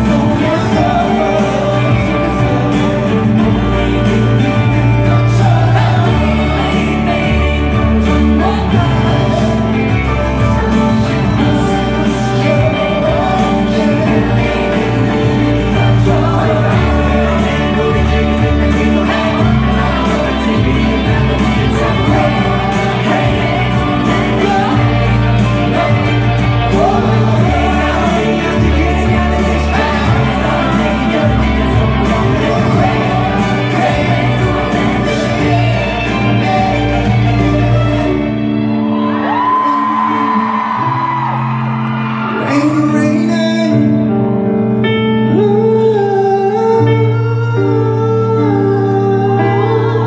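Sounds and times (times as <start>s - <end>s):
man singing into microphone: 0.0s - 41.6s, 42.3s - 50.0s
backing band playing: 0.0s - 50.0s.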